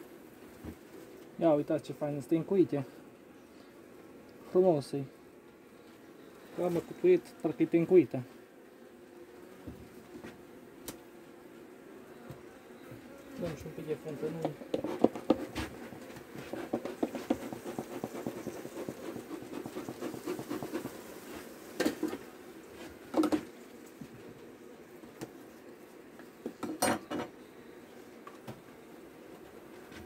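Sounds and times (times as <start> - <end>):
honeybees buzzing: 0.0 - 30.0.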